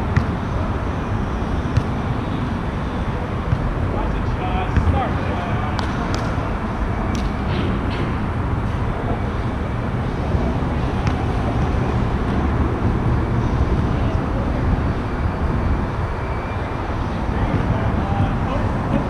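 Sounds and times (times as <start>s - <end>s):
low traffic rumble: 0.0s - 19.0s.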